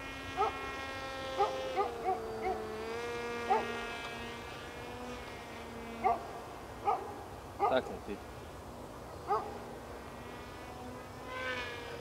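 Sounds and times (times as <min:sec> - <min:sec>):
model plane propeller buzzing: 0:00.0 - 0:12.0.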